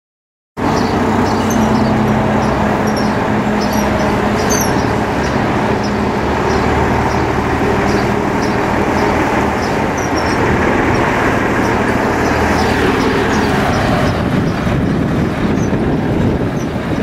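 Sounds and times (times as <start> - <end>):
truck diesel engine running: 0.6 - 17.0.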